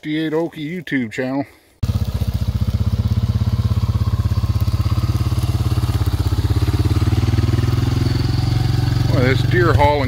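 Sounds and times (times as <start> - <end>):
atv engine idling: 1.8 - 10.0.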